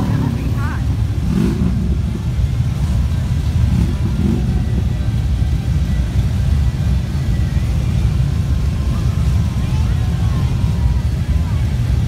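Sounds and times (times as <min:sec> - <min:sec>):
motorcycles idling: 0:00.0 - 0:12.0.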